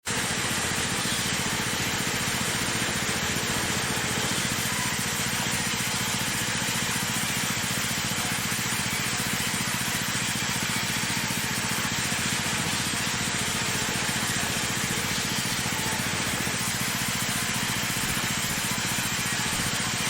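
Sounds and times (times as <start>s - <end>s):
cutting machine running: 0.0s - 20.0s.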